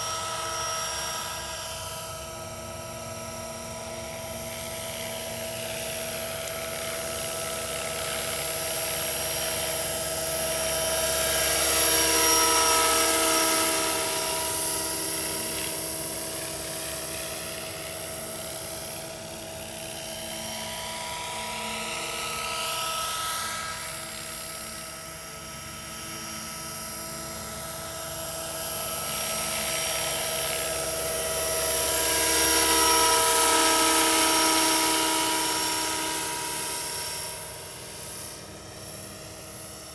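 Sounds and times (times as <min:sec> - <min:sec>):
model helicopter whining: 0:00.0 - 0:39.9.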